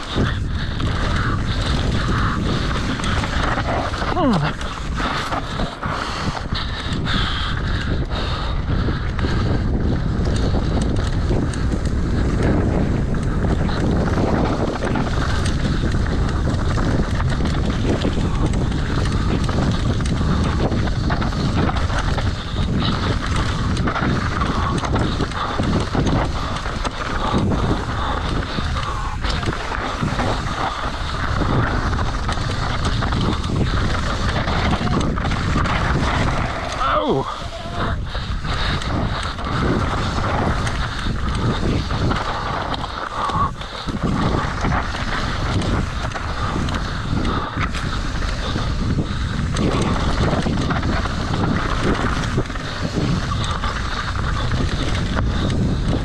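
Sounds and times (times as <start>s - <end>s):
bike rattling on rough trail: 0.0s - 56.0s
wind rushing over microphone: 0.0s - 56.0s.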